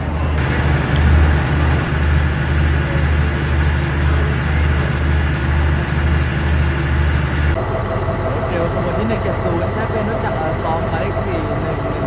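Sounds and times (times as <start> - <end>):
locomotive engine idling: 0.0 - 12.0.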